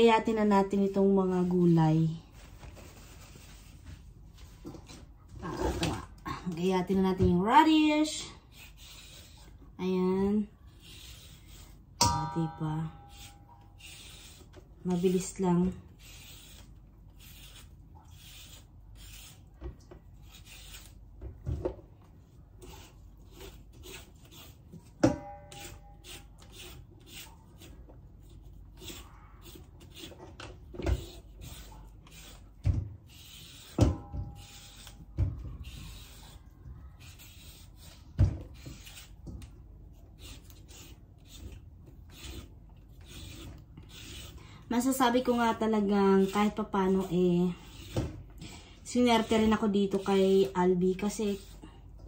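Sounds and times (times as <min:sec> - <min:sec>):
knife cutting radish: 0:05.5 - 0:21.1, 0:22.2 - 0:48.3.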